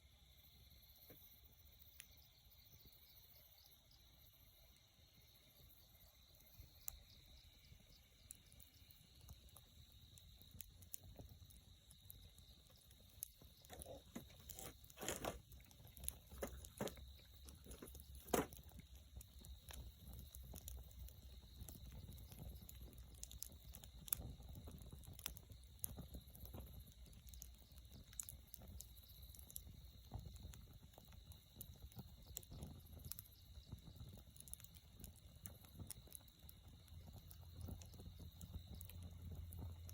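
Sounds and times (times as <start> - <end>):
campfire crackling and popping: 0.2 - 39.9.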